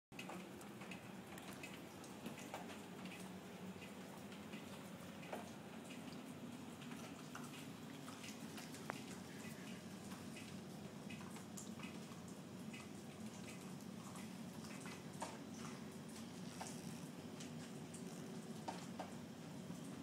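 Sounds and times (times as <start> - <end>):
faint steady rain: 0.1 - 20.0
drips and ticks: 0.2 - 20.0
low steady hum: 0.2 - 20.0.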